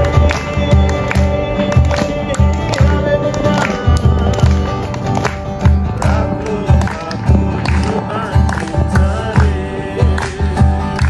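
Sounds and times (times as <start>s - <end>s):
person singing: 0.0s - 11.0s
song with steady beat: 0.0s - 11.0s.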